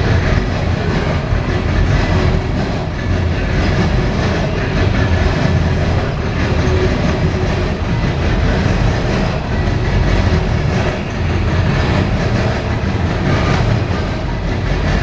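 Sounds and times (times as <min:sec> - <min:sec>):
freight train rumbling past: 0:00.0 - 0:15.0
steel wheels clattering over rail joints: 0:00.0 - 0:15.0.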